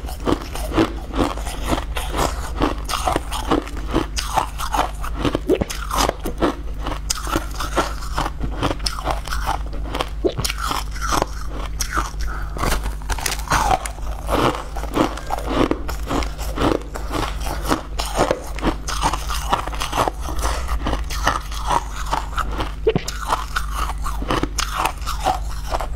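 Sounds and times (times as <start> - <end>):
crunching ice: 0.1 - 25.9.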